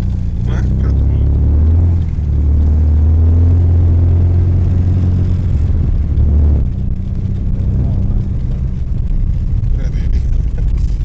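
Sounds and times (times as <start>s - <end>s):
rally car engine droning: 0.0s - 11.0s.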